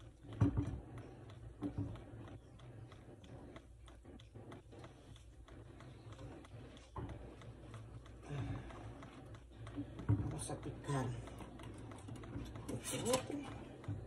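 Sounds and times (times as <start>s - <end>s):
light ticks and rustles of handling: 0.0s - 14.0s.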